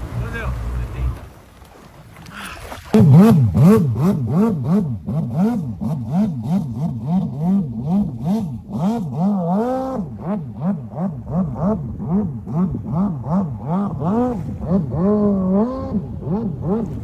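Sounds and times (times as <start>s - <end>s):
jet ski engine revving: 0.0s - 1.5s, 2.2s - 17.0s.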